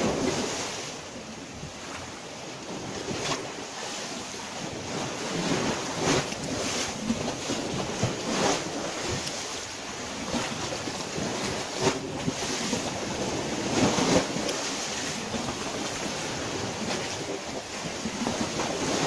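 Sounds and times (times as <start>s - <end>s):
small waves washing onto shore: 0.0s - 19.0s
wind noise on microphone: 0.0s - 19.0s.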